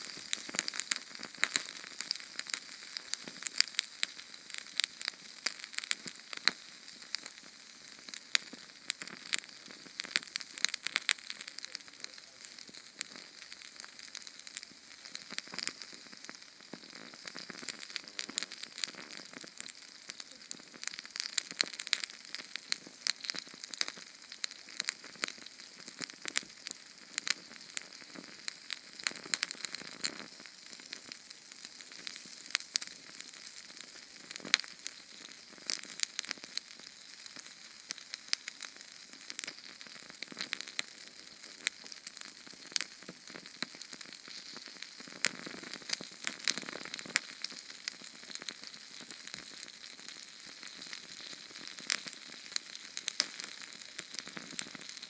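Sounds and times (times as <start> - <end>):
small flame burning and crackling: 0.0 - 55.0.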